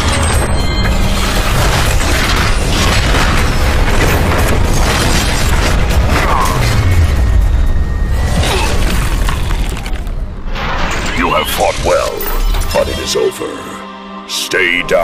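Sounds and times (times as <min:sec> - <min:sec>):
heavy booms and metallic impacts: 0:00.0 - 0:12.7.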